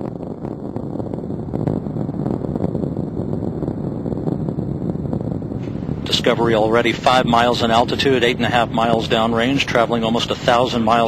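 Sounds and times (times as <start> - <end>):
rocket engines rumbling and crackling: 0.0 - 11.0.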